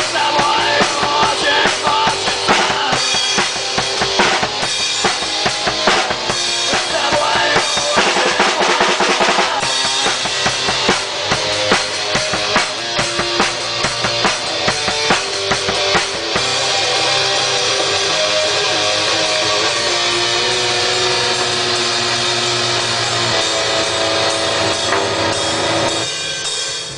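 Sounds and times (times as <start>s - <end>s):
drum kit playing: 0.0s - 26.9s
guitar: 0.0s - 26.9s.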